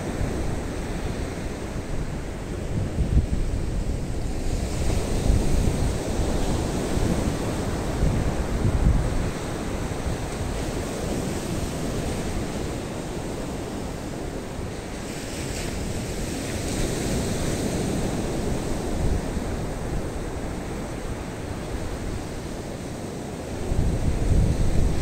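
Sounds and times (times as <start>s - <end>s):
waves breaking on shore: 0.0s - 25.0s
wind rumbling on microphone: 0.0s - 25.0s.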